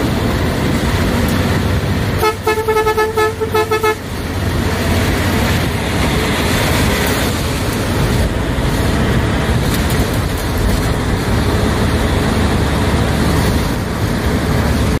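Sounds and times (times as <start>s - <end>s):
bus engine running: 0.0s - 15.0s
road noise: 0.0s - 15.0s.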